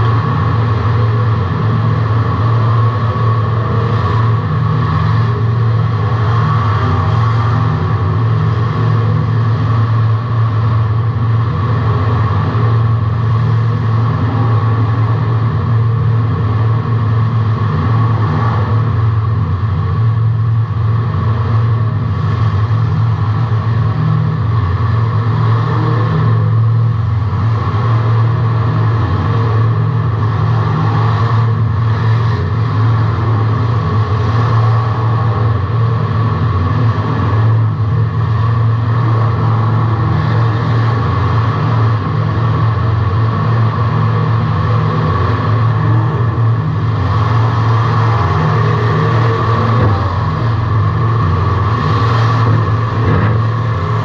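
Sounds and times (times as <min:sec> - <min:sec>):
race car engine running loudly: 0:00.0 - 0:54.0.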